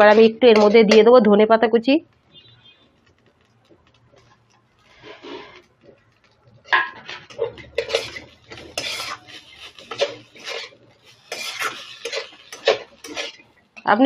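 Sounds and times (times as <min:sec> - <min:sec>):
spatula scraping wok: 0:00.0 - 0:01.1, 0:03.0 - 0:14.0.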